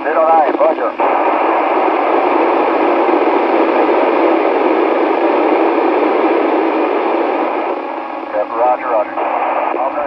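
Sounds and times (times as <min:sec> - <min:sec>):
radio receiver hiss: 0:00.0 - 0:10.0.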